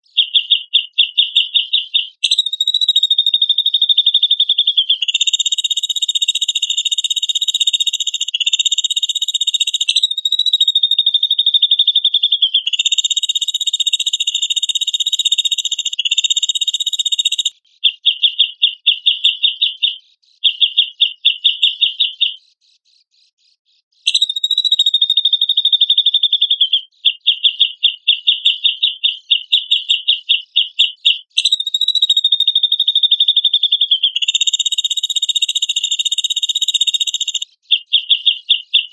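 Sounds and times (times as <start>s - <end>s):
bird singing buzzy trills: 0.0s - 22.3s, 24.0s - 38.9s.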